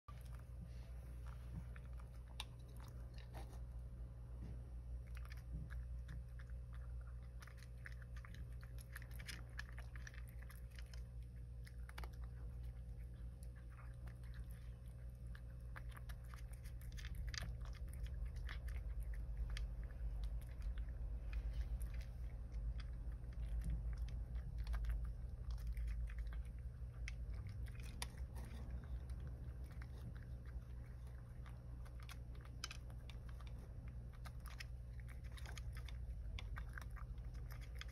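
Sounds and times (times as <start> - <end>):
cat crunching dry kibble: 0.1 - 37.9.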